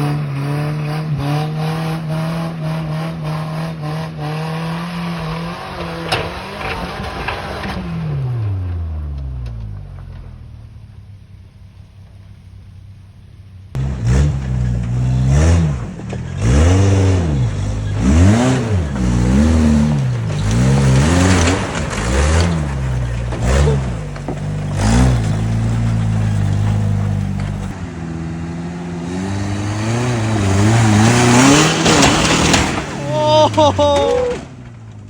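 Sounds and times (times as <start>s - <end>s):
truck engine revving: 0.0s - 10.9s, 13.7s - 35.0s.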